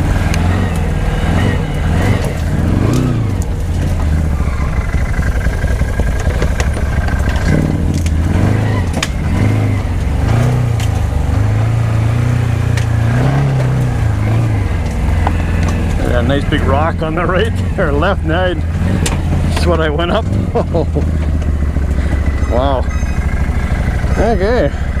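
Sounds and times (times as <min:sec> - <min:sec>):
knocks and clatter over rocks: 0:00.0 - 0:11.5, 0:12.6 - 0:24.1
atv engine revving: 0:00.0 - 0:25.0.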